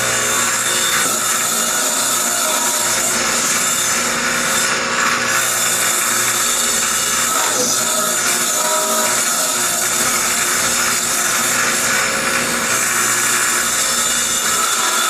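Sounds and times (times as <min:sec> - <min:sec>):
saw blade cutting wood: 0:00.0 - 0:15.0.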